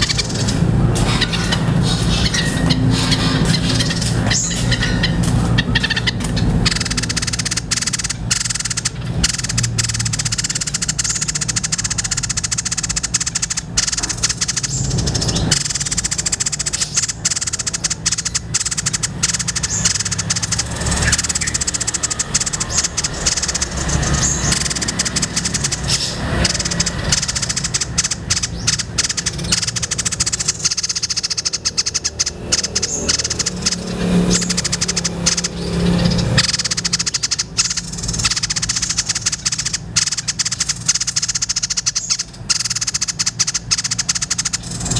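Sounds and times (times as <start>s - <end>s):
bird chattering song: 0.0s - 44.9s
steady low hum: 0.0s - 44.9s.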